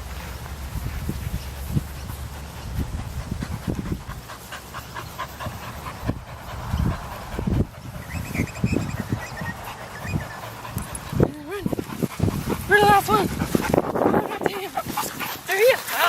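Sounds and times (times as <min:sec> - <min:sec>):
dog panting: 0:00.1 - 0:16.0.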